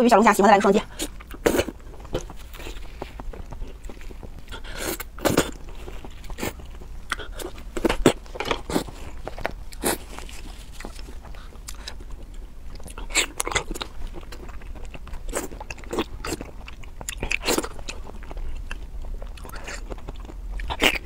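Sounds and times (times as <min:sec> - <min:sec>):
wet chewing and lip smacking: 0:00.9 - 0:21.0.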